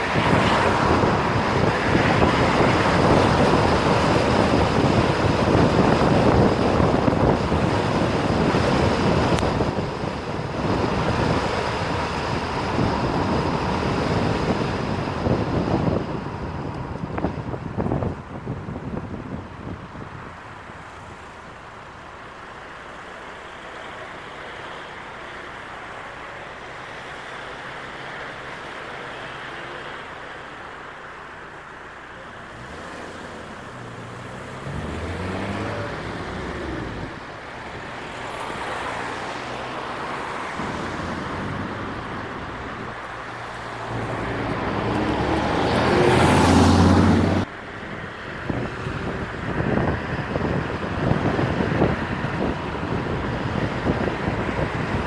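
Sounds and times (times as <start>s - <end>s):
car tyre and wind noise: 0.0s - 55.0s.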